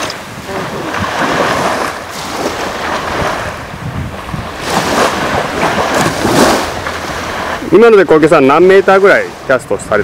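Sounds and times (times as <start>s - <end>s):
small waves on sandy beach: 0.0s - 10.0s
wind rumbling on microphone: 0.0s - 10.0s.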